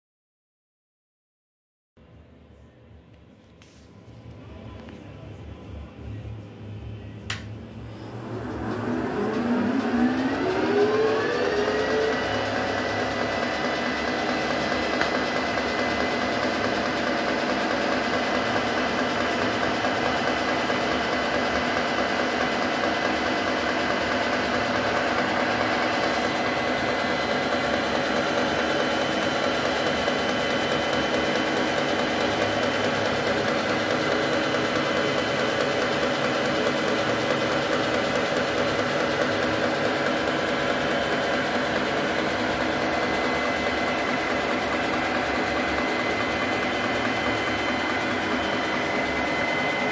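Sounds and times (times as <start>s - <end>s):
milling machine spindle whining: 7.8s - 49.9s.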